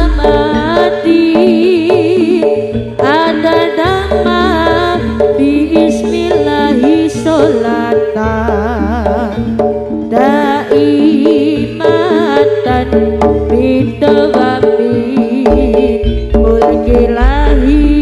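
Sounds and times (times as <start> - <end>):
drums pounding: 0.0 - 18.0
wavering melody: 0.0 - 18.0.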